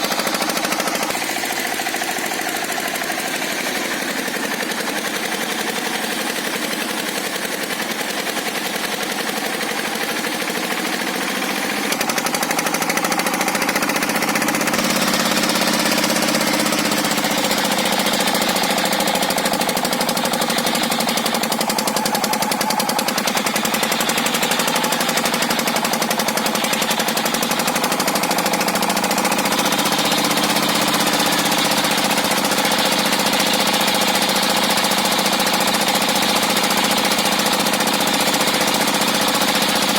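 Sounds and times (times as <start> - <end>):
saw blade cutting wood: 0.0 - 39.9
sawmill engine labouring: 0.0 - 39.9.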